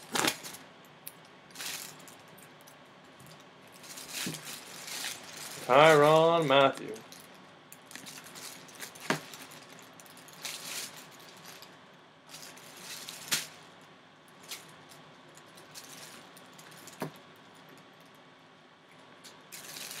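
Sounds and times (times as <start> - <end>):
plastic bag crinkling: 0.0 - 0.6, 1.5 - 13.7, 14.3 - 17.8, 19.3 - 20.0.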